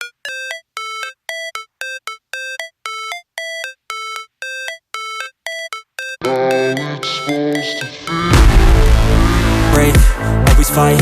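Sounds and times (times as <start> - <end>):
synthesized beeping music: 0.0 - 10.9.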